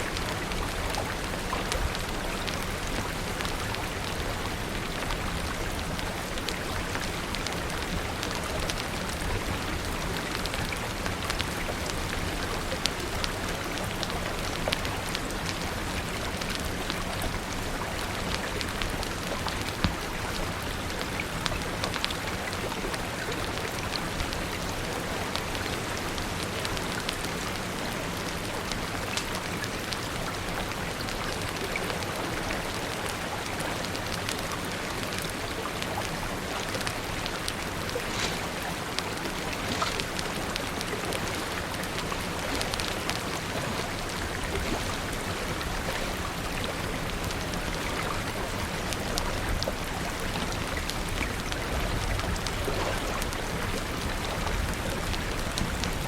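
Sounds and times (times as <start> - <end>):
crackling fire: 0.0 - 56.0
steady rain: 0.0 - 56.0.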